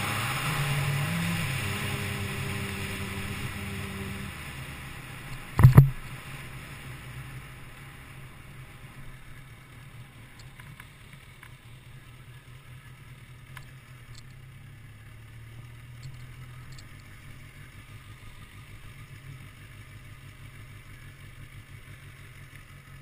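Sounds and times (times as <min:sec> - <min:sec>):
motorcycle engine rumbling: 0:00.0 - 0:23.0.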